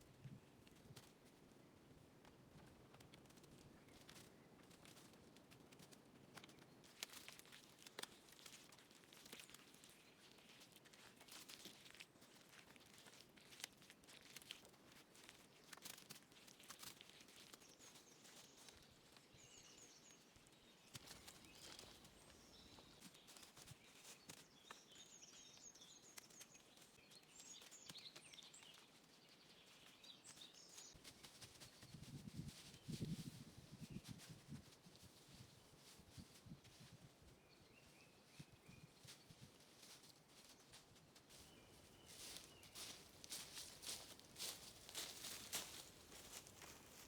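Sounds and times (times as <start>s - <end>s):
small birds chirping: 3.2s - 5.1s, 5.8s - 14.6s, 15.2s - 47.0s.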